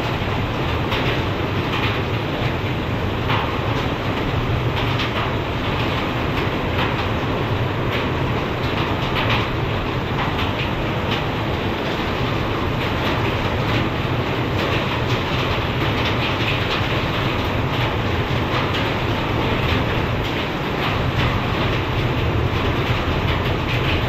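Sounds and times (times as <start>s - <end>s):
heavy rain and wind roar: 0.0s - 24.0s
raindrops pattering on window glass: 0.0s - 24.0s.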